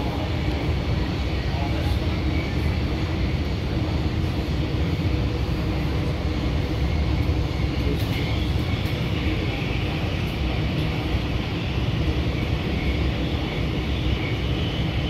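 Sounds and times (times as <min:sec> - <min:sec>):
tram rumbling inside cabin: 0:00.0 - 0:15.0.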